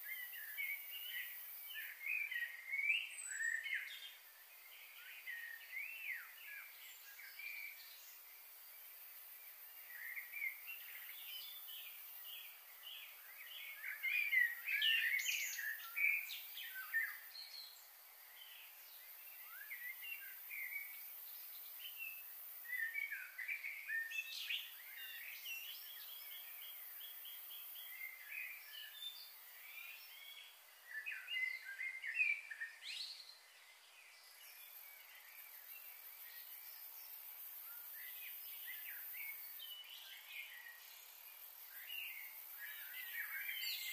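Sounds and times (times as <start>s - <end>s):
faint hiss: 0.0s - 43.9s
small birds chirping: 0.0s - 43.9s.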